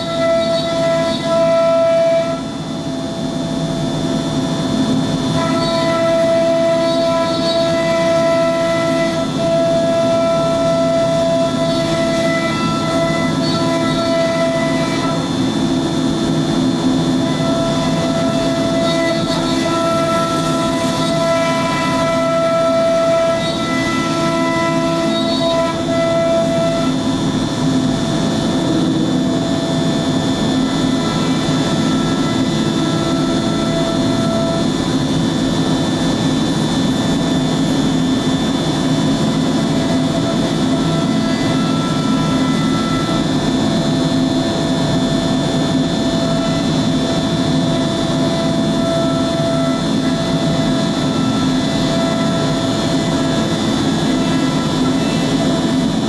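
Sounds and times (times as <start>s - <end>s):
cnc router droning: 0.0s - 56.0s.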